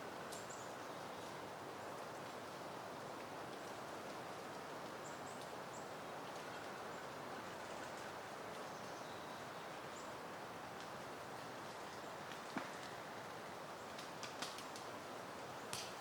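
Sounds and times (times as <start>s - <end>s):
wind rustling through plants: 0.0s - 16.0s.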